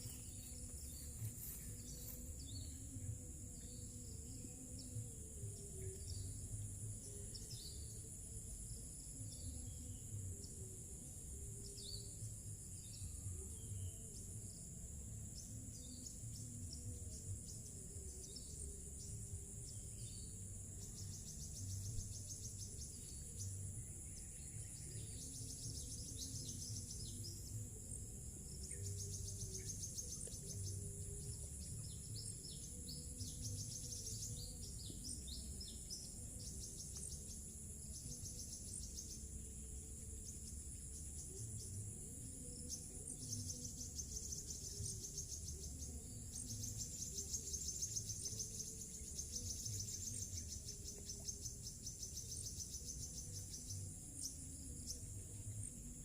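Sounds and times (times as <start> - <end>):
faint music: 0.0 - 56.0
insects chirring: 0.0 - 56.0.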